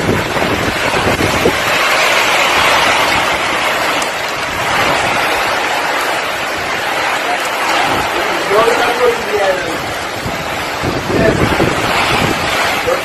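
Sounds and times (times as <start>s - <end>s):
strong wind rushing: 0.0s - 13.0s.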